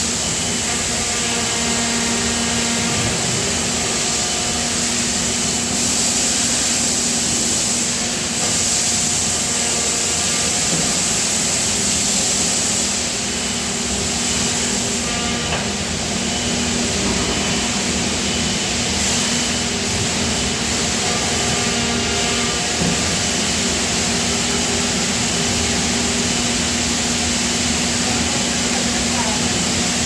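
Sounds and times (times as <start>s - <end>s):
industrial machinery hum and hiss: 0.0s - 30.0s.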